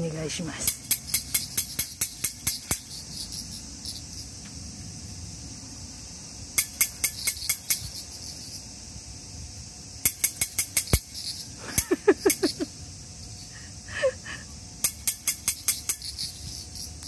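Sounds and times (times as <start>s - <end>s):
cicadas singing: 0.0s - 17.0s.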